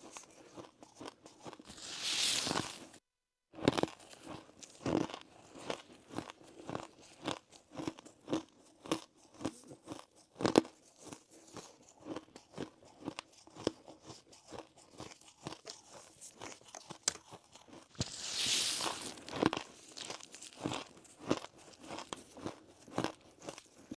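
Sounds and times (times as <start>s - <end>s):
person crunching ice: 0.0s - 3.0s, 3.6s - 24.0s.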